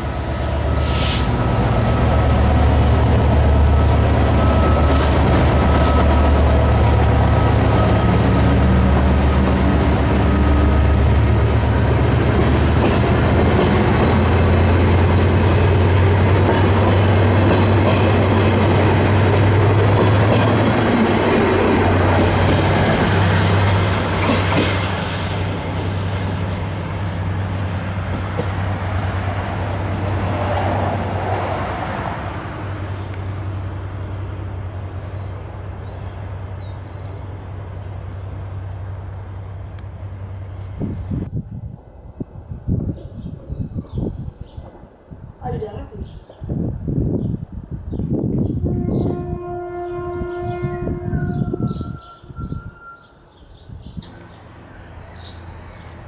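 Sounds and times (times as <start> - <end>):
diesel locomotive engine droning: 0.0 - 42.9, 46.6 - 56.0
train coaches rolling by: 0.0 - 56.0.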